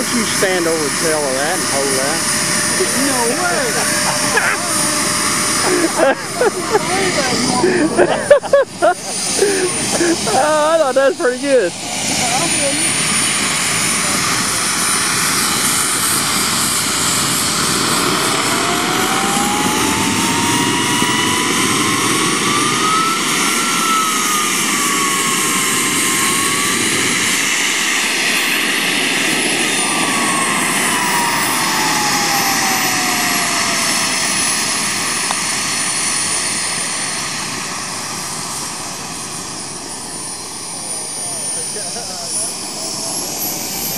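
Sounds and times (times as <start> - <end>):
model jet engine whining: 0.0 - 43.9.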